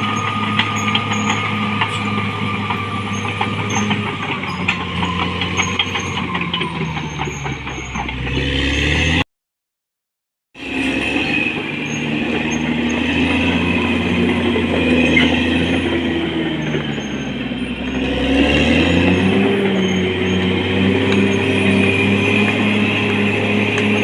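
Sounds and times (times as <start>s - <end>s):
steel tracks squeaking: 0.0s - 8.5s, 10.6s - 24.0s
bulldozer diesel engine running: 0.0s - 9.2s, 10.6s - 24.0s.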